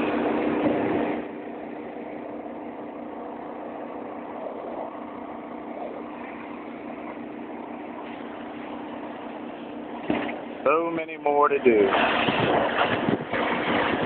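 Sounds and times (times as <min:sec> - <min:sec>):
pressure washer engine running: 0:00.0 - 0:14.0.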